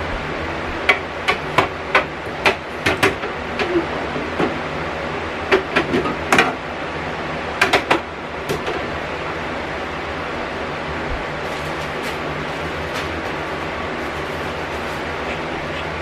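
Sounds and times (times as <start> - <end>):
steady refrigerator hum: 0.0 - 16.0.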